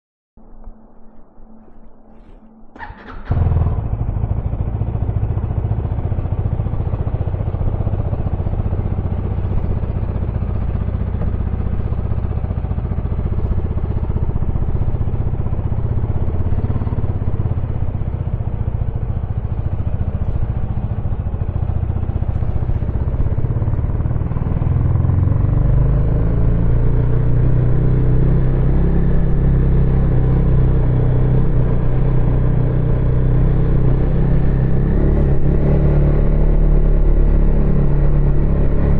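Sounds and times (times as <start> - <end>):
motorcycle engine running: 2.7 - 38.9.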